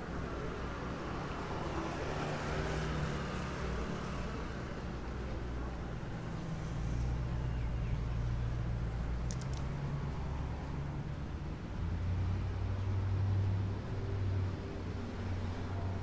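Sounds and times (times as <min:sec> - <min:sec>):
traffic engines humming: 0:00.0 - 0:16.0.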